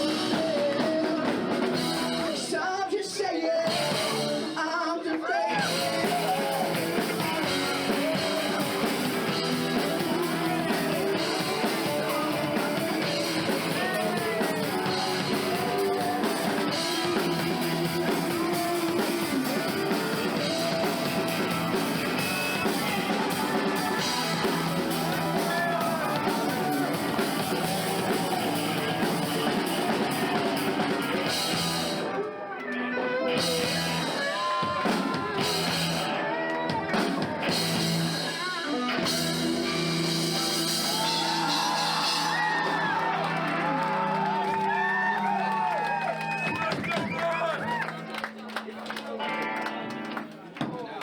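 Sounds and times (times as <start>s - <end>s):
live rock band playing: 0.0s - 4.8s, 5.6s - 50.3s.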